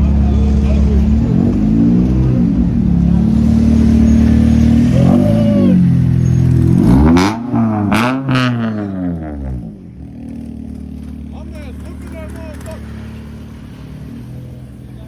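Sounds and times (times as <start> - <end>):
car engine idling with throttle blips: 0.0 - 15.0.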